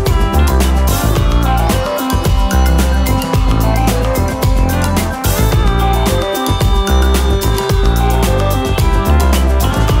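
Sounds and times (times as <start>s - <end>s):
background music with steady beat: 0.0s - 10.0s
deep held bass notes: 0.0s - 10.0s.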